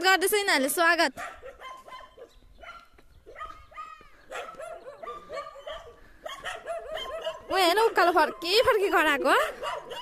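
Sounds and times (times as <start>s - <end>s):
dogs barking and yelping: 1.1s - 10.0s.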